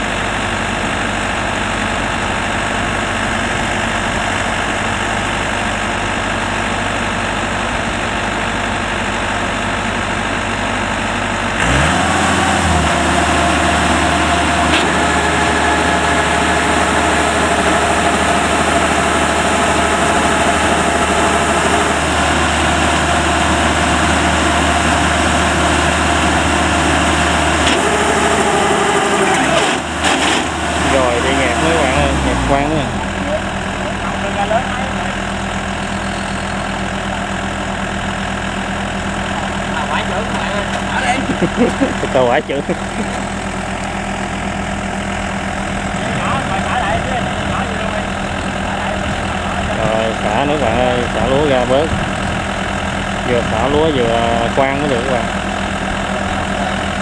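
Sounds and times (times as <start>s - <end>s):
combine harvester engine running: 0.0s - 57.0s
engine whine: 0.0s - 57.0s.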